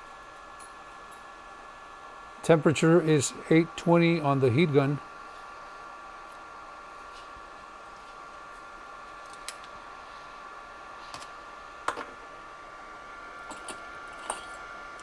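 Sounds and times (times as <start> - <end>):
heat gun hissing: 0.0 - 15.0.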